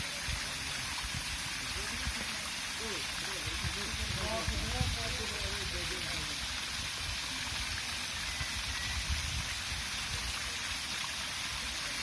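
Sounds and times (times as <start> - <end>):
falling water hissing: 0.0 - 12.0.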